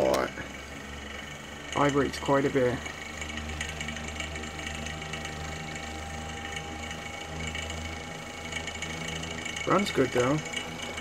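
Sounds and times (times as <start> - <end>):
fan motor humming with whine: 0.0 - 11.0.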